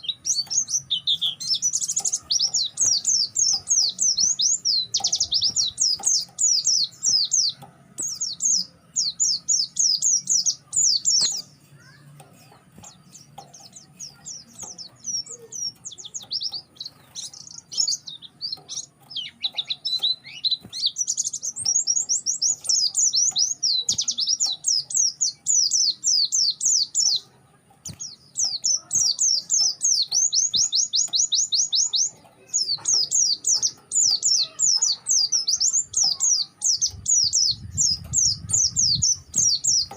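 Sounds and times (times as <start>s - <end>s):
bird twittering high chirps: 0.0s - 39.9s.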